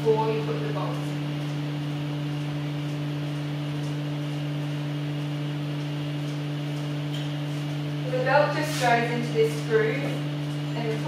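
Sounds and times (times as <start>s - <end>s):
low two-tone hum: 0.0s - 11.0s.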